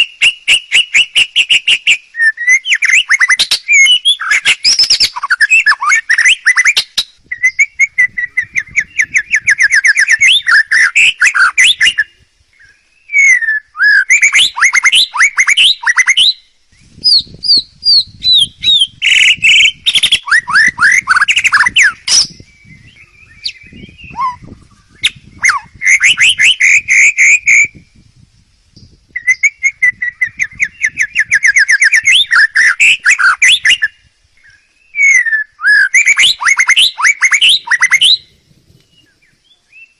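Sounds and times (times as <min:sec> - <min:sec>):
songbird trilling and whistling: 0:00.0 - 0:28.0, 0:28.7 - 0:39.9.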